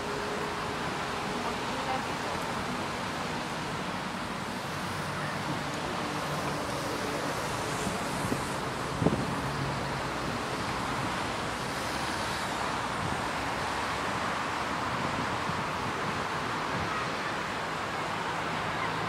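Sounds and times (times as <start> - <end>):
distant city traffic hum: 0.0 - 19.0.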